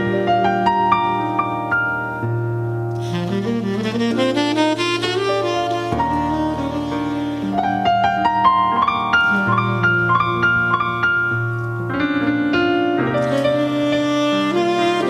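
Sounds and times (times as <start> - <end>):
electric piano smooth jazz: 0.0 - 15.0.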